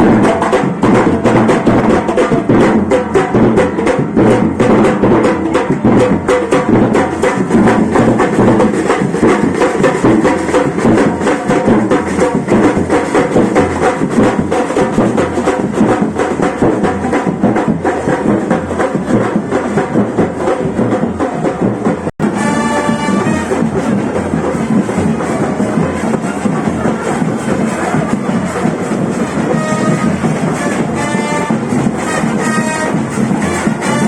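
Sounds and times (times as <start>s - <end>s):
drums and percussion playing: 0.0s - 34.0s.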